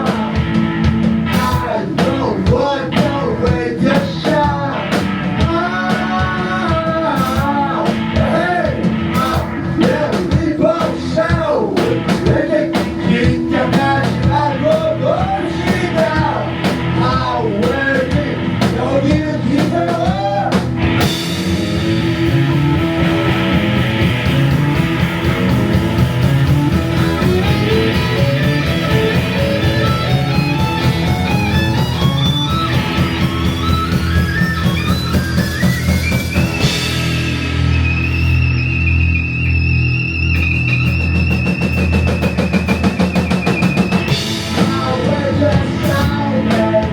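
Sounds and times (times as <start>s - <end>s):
live rock band with electric violin: 0.0s - 46.9s.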